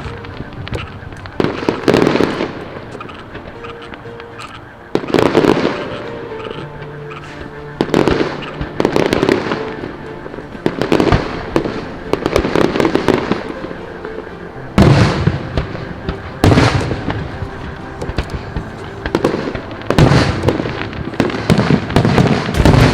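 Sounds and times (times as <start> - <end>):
firework shells booming: 0.0 - 13.6, 14.8 - 22.9
firework crackling: 0.0 - 22.9.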